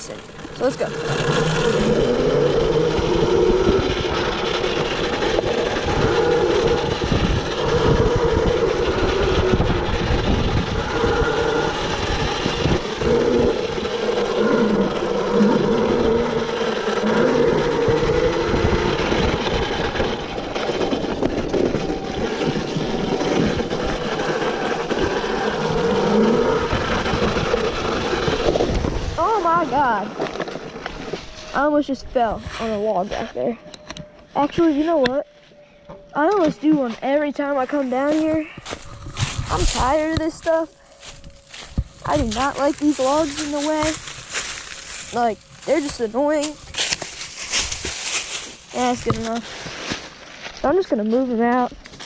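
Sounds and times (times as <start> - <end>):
wind noise: 0.0 - 35.4, 36.3 - 52.0
electric motor whine: 0.0 - 52.0.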